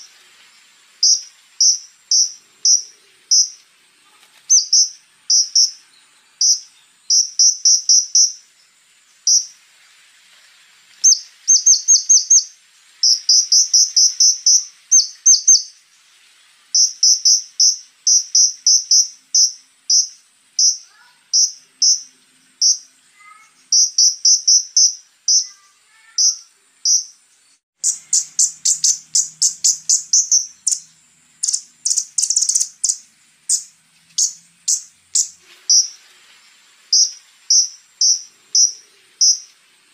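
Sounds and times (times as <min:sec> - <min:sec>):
bird singing sharp high chips: 0:00.0 - 0:03.7, 0:04.3 - 0:05.8, 0:06.4 - 0:08.5, 0:09.1 - 0:09.6, 0:11.0 - 0:15.8, 0:16.7 - 0:27.2, 0:27.8 - 0:36.0, 0:36.9 - 0:39.6.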